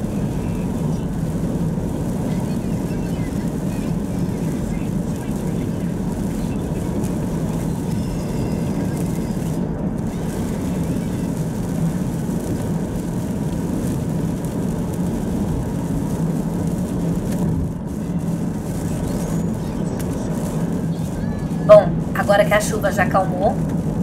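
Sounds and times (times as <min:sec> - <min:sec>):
car engine cruising: 0:00.0 - 0:24.0
tyres on wet road: 0:00.0 - 0:24.0.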